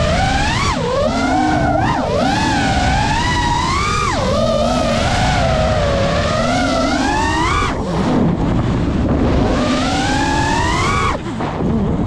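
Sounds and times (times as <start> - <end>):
drone motors whining: 0.0 - 12.0
wind rush: 0.0 - 12.0.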